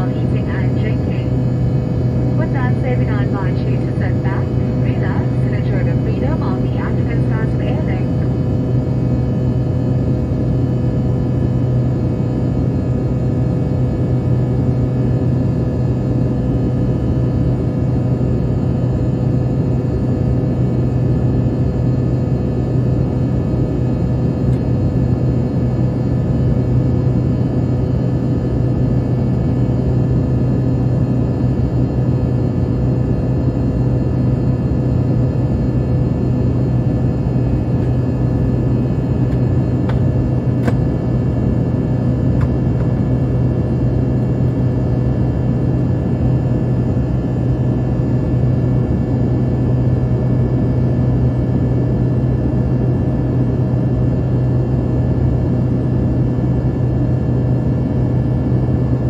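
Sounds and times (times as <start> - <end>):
jet cabin drone: 0.0 - 59.0.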